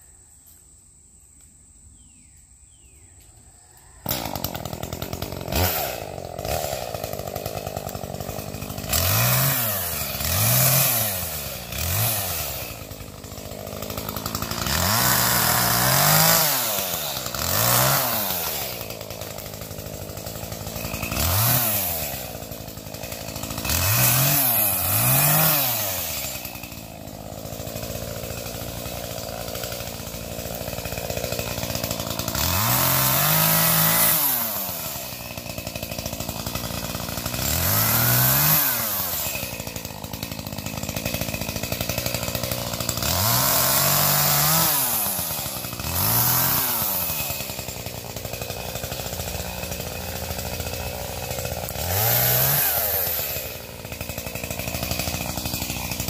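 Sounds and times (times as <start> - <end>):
chainsaw idling and revving: 3.7 - 56.0.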